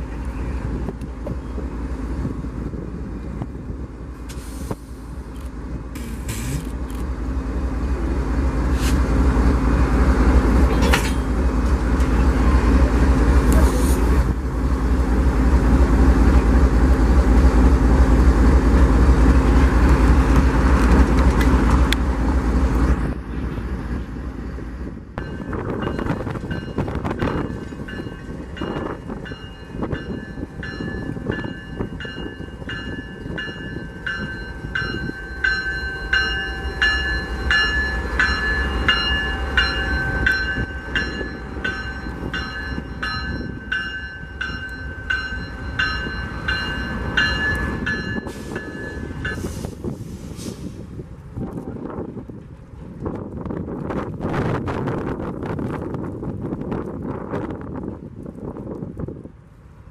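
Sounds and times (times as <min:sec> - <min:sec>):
diesel locomotive engine rumble: 0:00.0 - 0:59.9
train rolling past: 0:00.0 - 0:59.9.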